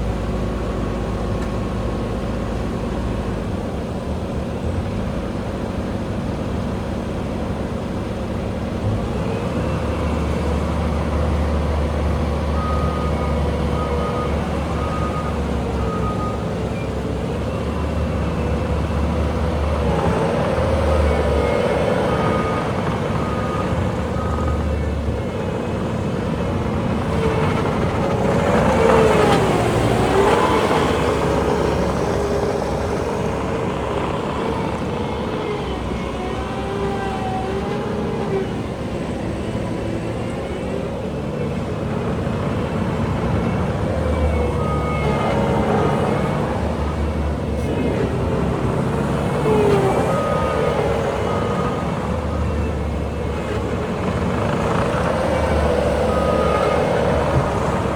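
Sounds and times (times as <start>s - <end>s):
loader diesel engine running: 0.0s - 57.9s
hydraulic whine: 6.5s - 57.9s.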